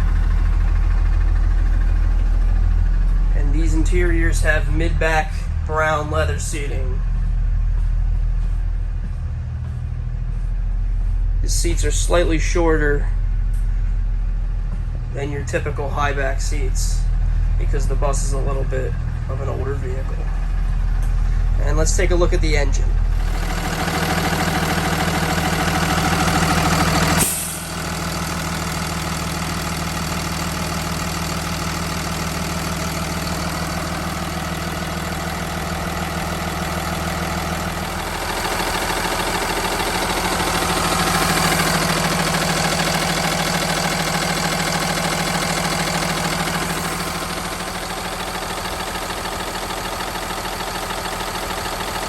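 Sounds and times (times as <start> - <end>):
diesel bus engine idling: 0.0 - 52.0.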